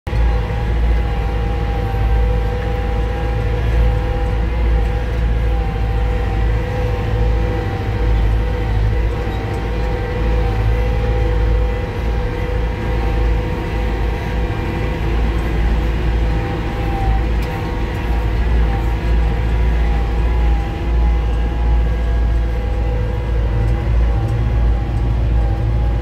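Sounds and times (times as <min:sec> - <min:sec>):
steady engine whine: 0:00.0 - 0:26.0
tractor engine rumble: 0:00.1 - 0:26.0.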